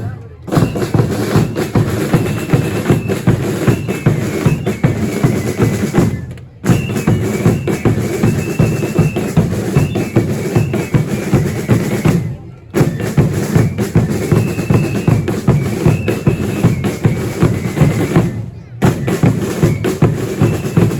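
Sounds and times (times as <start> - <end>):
drums beating fast rhythm: 0.0 - 20.9.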